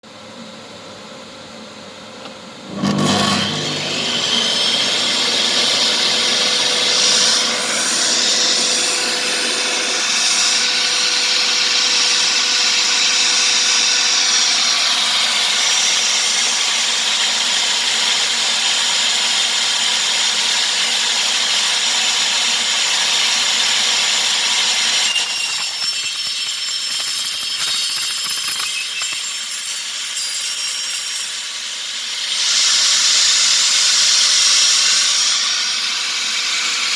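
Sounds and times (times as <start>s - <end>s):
table saw cutting wood: 2.7s - 36.9s.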